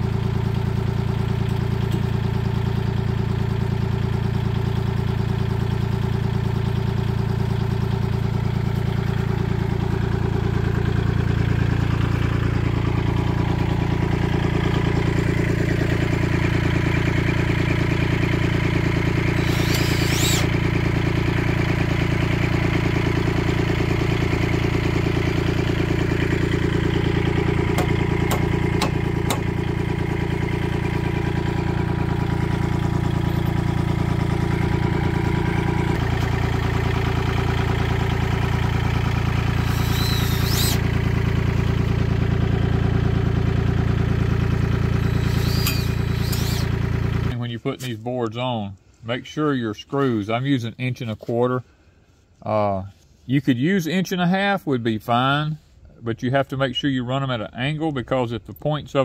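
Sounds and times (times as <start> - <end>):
diesel tractor engine idling: 0.0 - 48.3.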